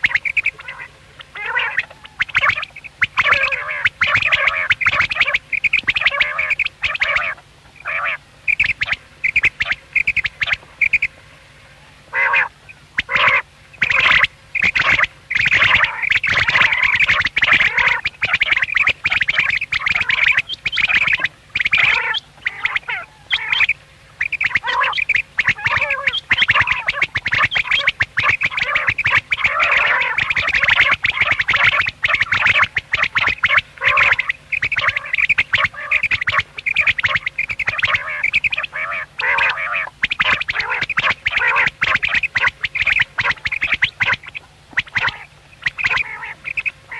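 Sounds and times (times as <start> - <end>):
quails calling: 0.0 - 46.9.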